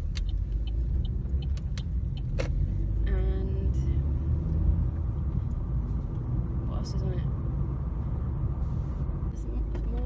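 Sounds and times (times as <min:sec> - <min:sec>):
road rumble inside moving car: 0:00.0 - 0:10.0.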